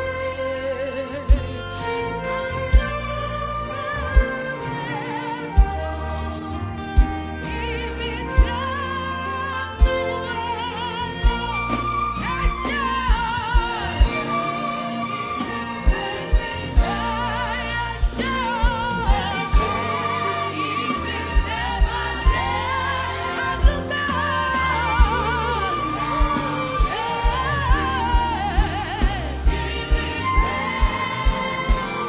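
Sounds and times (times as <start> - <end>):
person singing with vibrato: 0.0 - 32.0.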